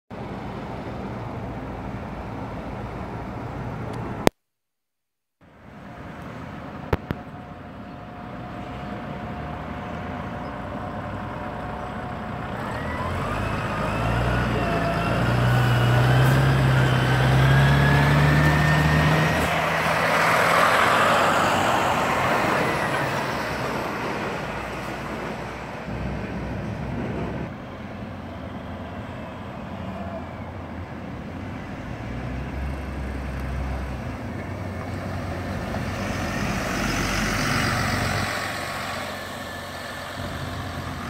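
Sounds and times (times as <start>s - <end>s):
bus diesel engine hum: 0.1s - 4.3s, 5.5s - 41.0s
lorry engine and tyre noise: 0.1s - 4.4s, 5.4s - 41.0s.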